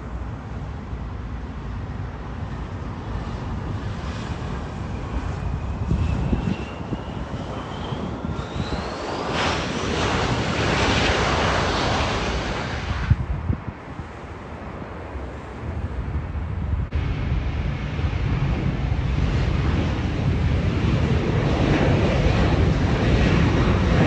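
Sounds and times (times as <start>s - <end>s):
jet engines rumbling and whining: 0.0s - 24.0s
loud jet roar: 2.5s - 13.5s, 15.0s - 24.0s.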